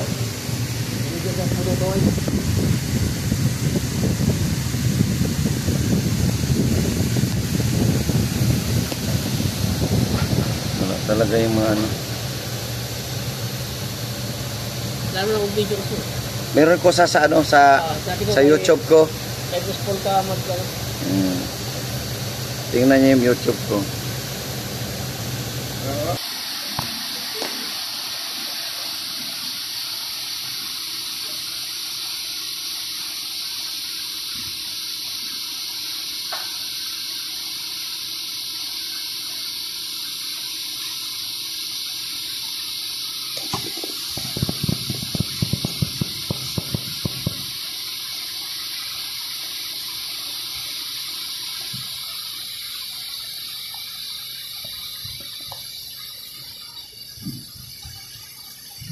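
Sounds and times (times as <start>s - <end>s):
running water hiss: 0.0s - 58.9s.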